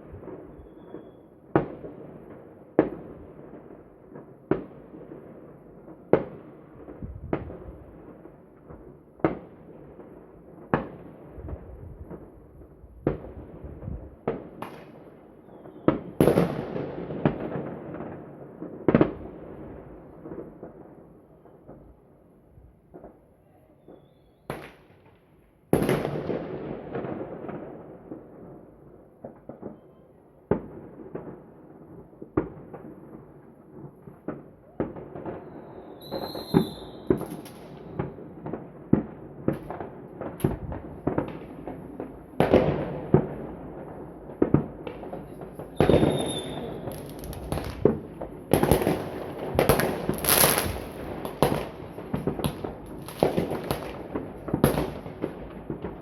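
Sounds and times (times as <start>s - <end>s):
fireworks bangs and cracks: 0.0s - 22.0s, 22.8s - 56.0s.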